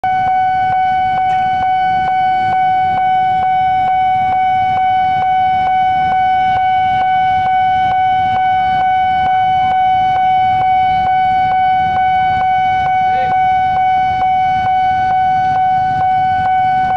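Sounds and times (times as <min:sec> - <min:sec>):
level crossing alarm tone: 0:00.0 - 0:16.9
regular alarm clicks: 0:00.0 - 0:16.9.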